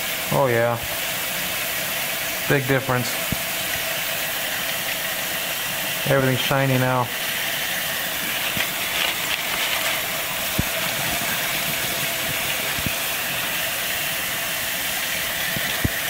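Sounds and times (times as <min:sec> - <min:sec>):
water spilling into a steel sink: 0:00.0 - 0:16.0
tap water pouring into a bowl: 0:00.1 - 0:16.0.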